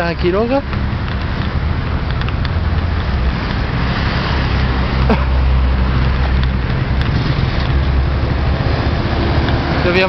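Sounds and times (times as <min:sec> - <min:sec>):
rumble of passing traffic: 0:00.0 - 0:10.0.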